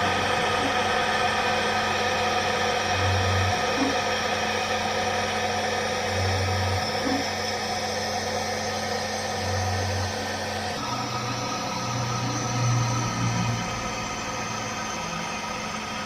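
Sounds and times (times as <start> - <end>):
machine droning: 0.0 - 16.0.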